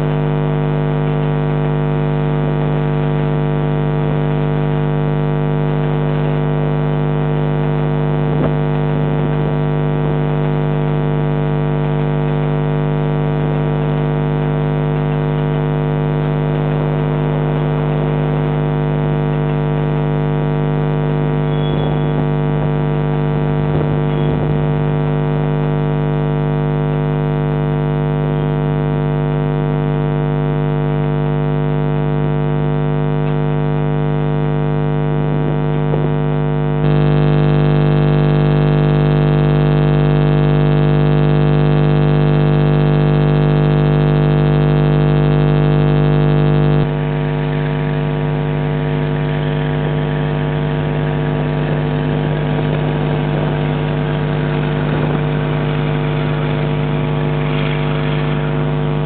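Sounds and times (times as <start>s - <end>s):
loud electrical hum: 0.0s - 59.0s.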